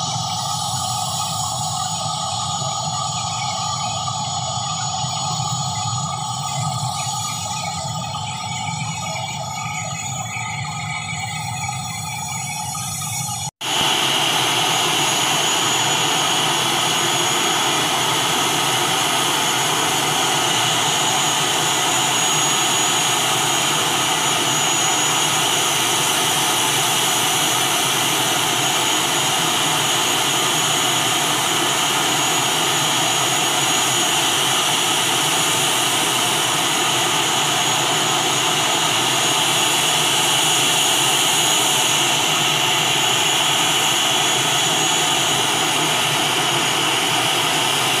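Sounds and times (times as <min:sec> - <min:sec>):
turboprop engines idling: 0:00.0 - 0:48.0.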